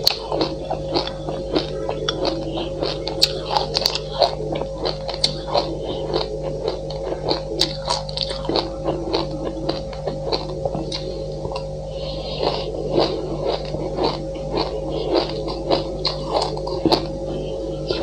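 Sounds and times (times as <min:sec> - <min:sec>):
crunchy chewing of seeds: 0:00.0 - 0:18.0.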